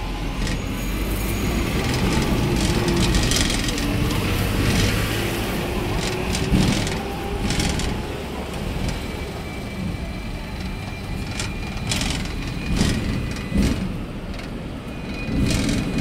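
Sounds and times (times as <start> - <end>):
tram rumbling on track: 0.0 - 16.0.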